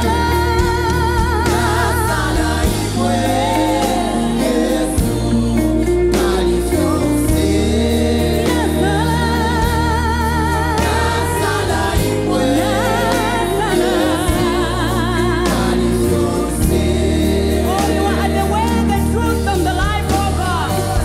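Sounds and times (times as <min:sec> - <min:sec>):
backing vocalists singing: 0:00.0 - 0:21.0
band playing gospel music: 0:00.0 - 0:21.0
woman singing lead: 0:00.0 - 0:21.0.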